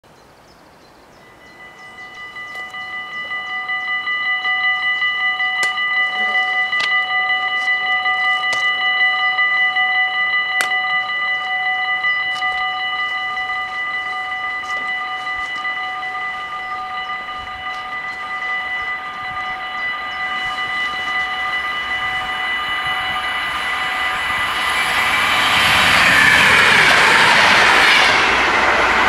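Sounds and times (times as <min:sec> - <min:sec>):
level crossing warning bells: 0:01.1 - 0:29.0.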